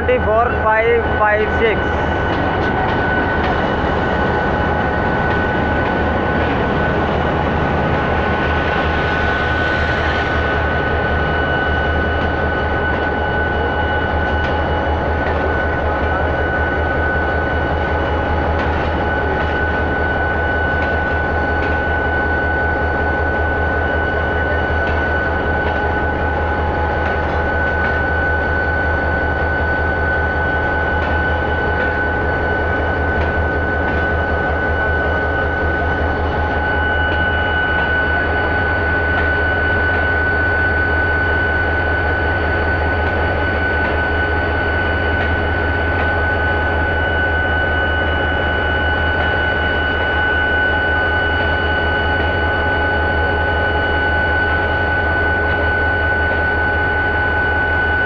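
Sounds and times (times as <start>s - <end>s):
constant high whine: 0.0s - 58.0s
train wheels rumbling on track: 0.0s - 58.0s.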